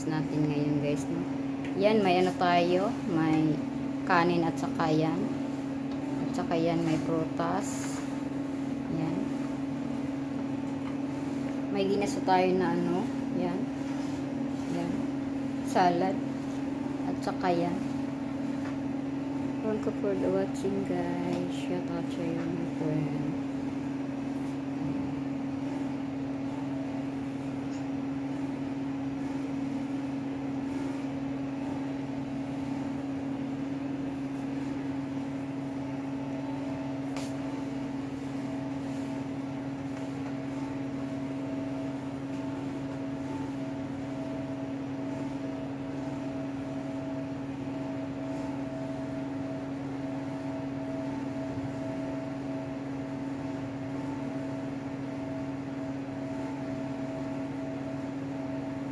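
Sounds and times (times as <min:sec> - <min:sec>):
electrical machine hum: 0:00.0 - 0:58.9.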